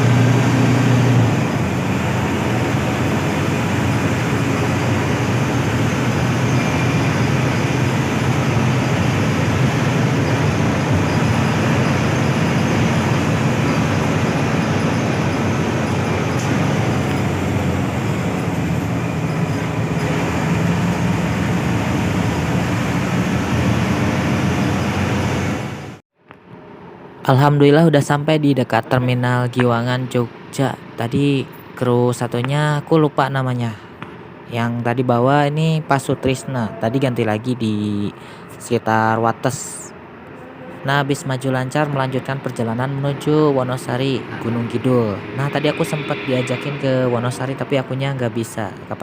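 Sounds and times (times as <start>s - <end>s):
bus engine and road noise: 0.0s - 49.0s.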